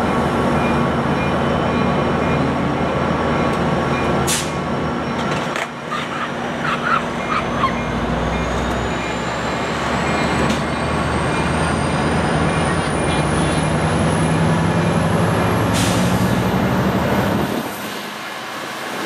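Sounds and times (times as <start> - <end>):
train rolling with engine: 0.0 - 19.0.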